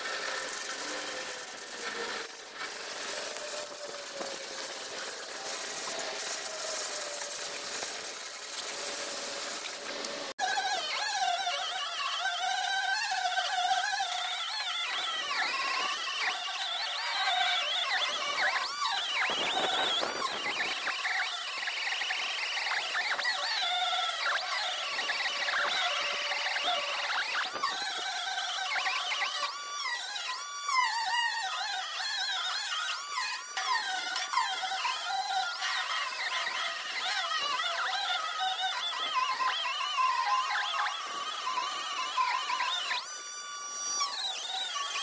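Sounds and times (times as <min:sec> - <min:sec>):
grinder grinding metal: 0:00.0 - 0:45.0.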